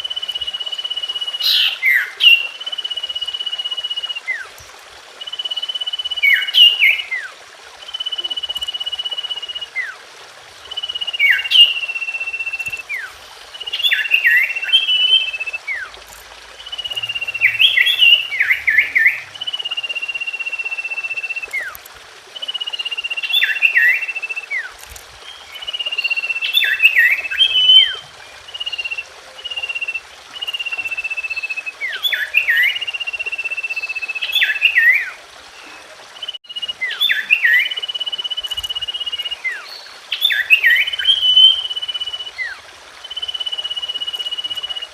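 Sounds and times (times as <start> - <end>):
bird whistling and chirping: 0.0 - 4.6, 5.2 - 10.0, 10.6 - 15.9, 16.6 - 21.8, 22.4 - 44.9.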